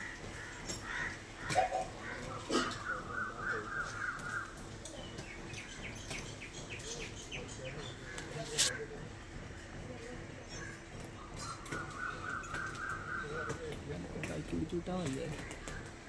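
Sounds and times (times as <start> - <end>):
birds calling: 0.0 - 8.8, 10.4 - 16.0.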